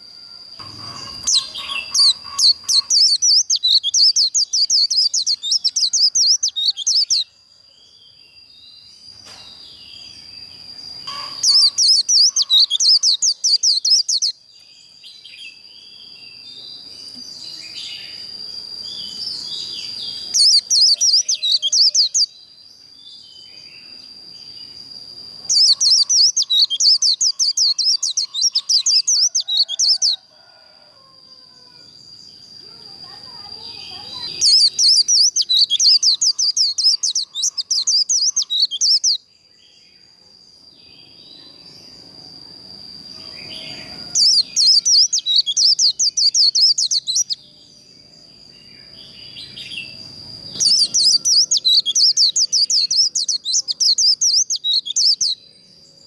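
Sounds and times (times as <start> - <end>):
bird twittering song: 0.0 - 30.7, 32.0 - 40.1, 43.0 - 56.0.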